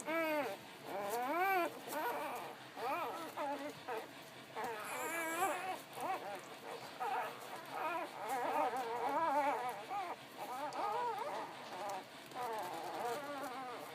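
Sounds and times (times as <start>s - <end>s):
puppies whimpering and squeaking: 0.0s - 13.9s.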